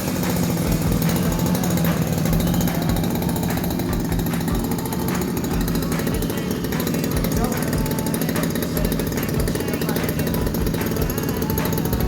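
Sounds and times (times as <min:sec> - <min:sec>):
brushcutter engine buzzing: 0:00.0 - 0:12.0.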